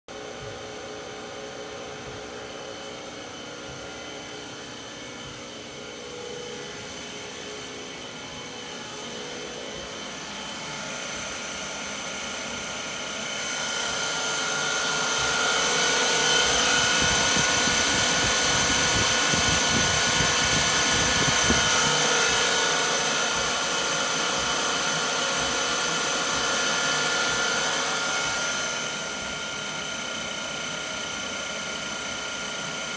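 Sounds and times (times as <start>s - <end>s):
electric motor whine: 0.1s - 32.9s.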